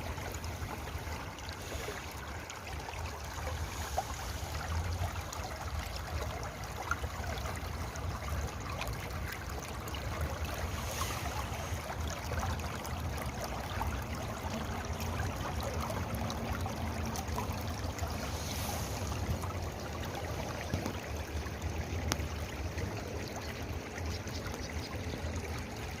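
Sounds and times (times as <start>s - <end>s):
stream of water trickling: 0.0s - 26.0s.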